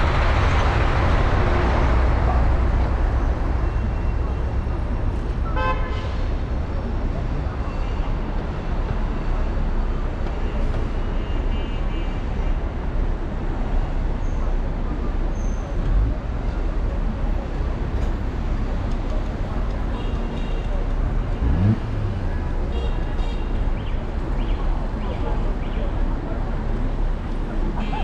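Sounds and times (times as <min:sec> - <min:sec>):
city traffic noise: 0:00.0 - 0:28.0.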